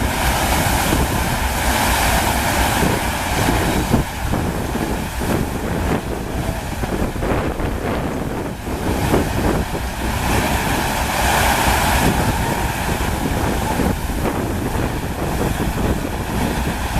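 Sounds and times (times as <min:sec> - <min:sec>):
water rushing: 0:00.0 - 0:16.9
wind buffeting microphone: 0:00.0 - 0:16.9.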